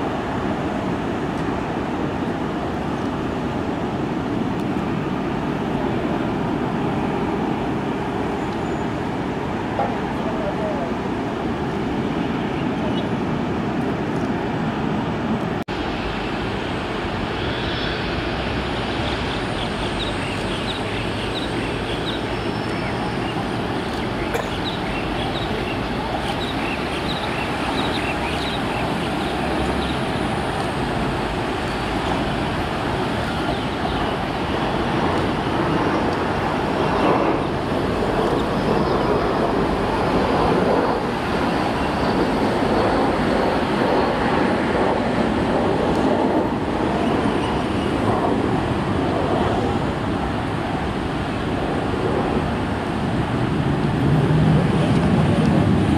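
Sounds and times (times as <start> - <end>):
distant jet engines taxiing: 0.0 - 55.9.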